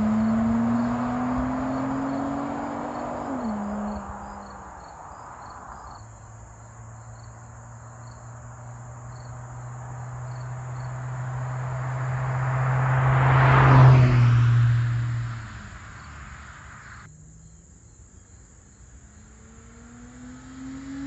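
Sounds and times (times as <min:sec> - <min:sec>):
car exhaust drone passing by: 0:00.0 - 0:17.6, 0:18.6 - 0:21.0.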